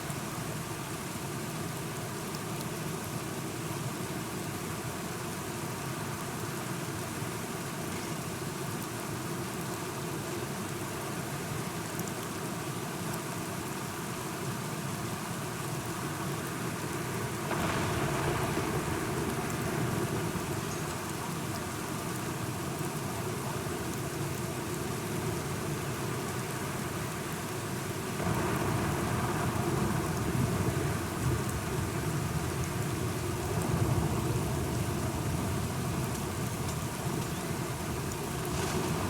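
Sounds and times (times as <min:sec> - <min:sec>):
steady rainfall: 0:00.0 - 0:39.0.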